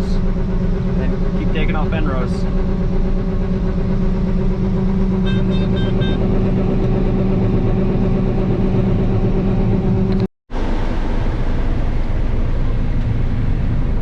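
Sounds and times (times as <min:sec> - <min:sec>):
combine engine running: 0:00.0 - 0:14.0.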